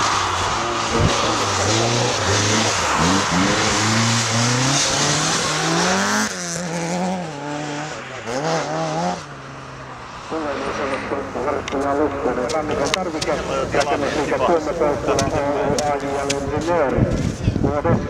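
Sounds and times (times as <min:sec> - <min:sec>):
rally car engine accelerating: 0:00.0 - 0:16.1.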